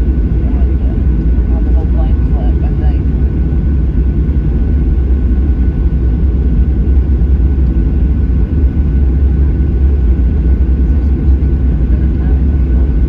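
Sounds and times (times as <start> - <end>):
jet engines deep rumble: 0.0 - 13.0.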